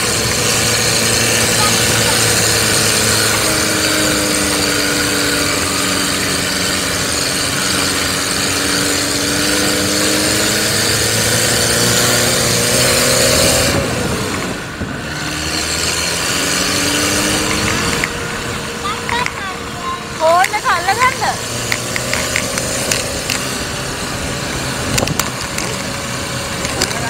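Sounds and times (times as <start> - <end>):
jeep engine climbing: 0.0 - 27.0.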